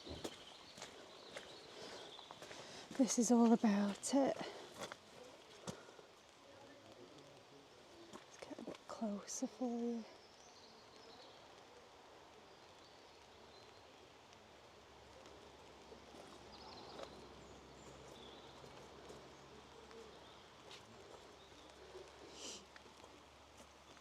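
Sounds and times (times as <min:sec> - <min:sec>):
low steady hiss: 0:00.0 - 0:24.0.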